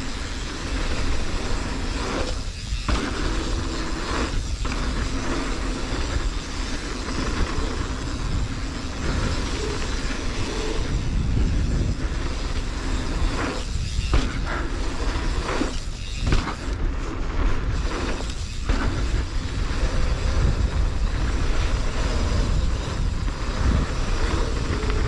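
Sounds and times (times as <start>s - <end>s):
bike tyre trail noise: 0.0s - 25.0s
wind buffeting microphone: 0.0s - 25.0s.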